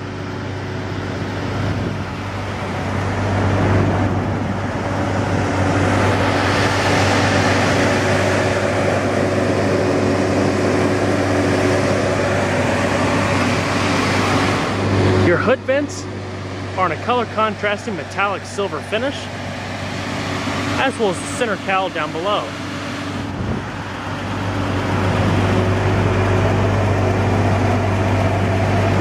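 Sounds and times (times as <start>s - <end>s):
car engine idling: 0.0s - 29.0s
rushing noise: 0.0s - 29.0s.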